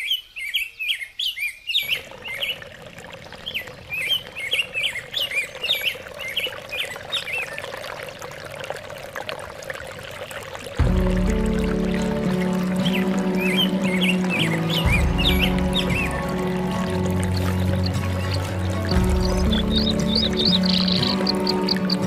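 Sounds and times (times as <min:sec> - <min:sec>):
small birds chirping: 0:00.0 - 0:08.2, 0:11.8 - 0:22.0.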